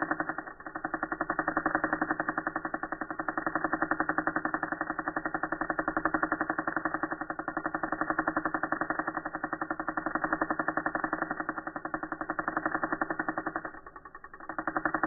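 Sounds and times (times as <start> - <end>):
tattoo machine buzzing: 0.0 - 15.0.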